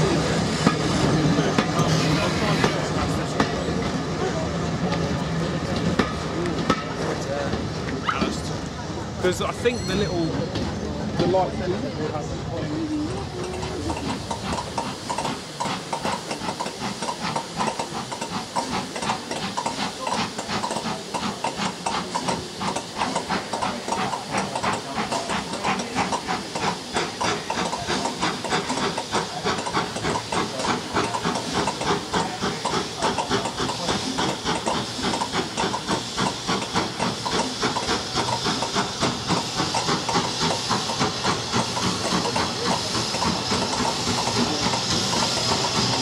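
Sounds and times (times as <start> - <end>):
steam hissing: 0.0 - 46.0
steam locomotive exhaust beats: 0.0 - 46.0.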